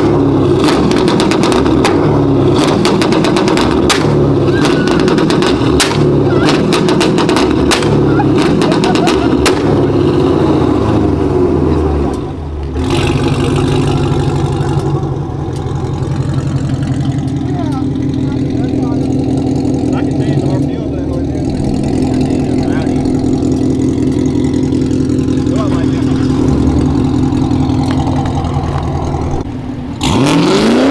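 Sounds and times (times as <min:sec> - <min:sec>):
loud car engine running: 0:00.0 - 0:30.9
exhaust pops and cracks: 0:00.5 - 0:10.2, 0:12.0 - 0:30.1.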